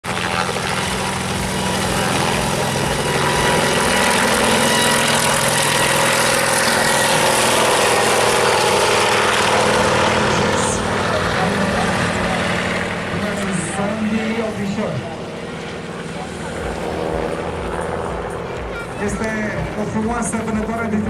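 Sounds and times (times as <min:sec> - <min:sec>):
aircraft engine running: 0:00.0 - 0:21.0.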